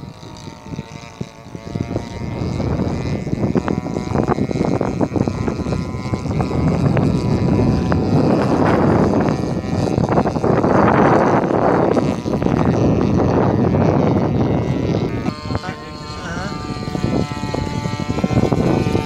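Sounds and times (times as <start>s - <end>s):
small plane engine overhead: 0.0s - 19.0s
wind buffeting microphone: 0.0s - 19.0s.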